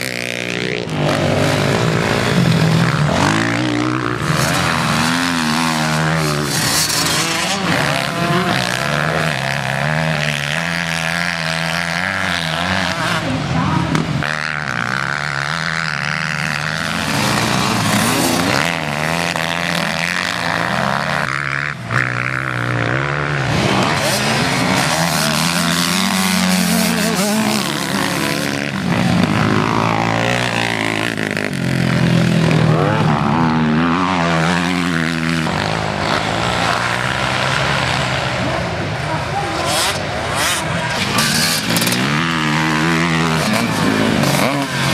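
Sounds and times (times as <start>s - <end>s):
motocross bikes revving: 0.0s - 44.9s.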